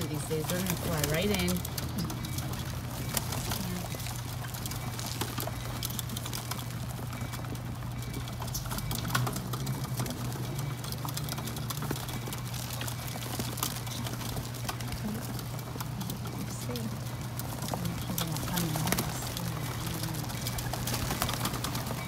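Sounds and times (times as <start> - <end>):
bird feet scuffling: 0.0 - 22.0
pigeons pecking: 0.0 - 22.0.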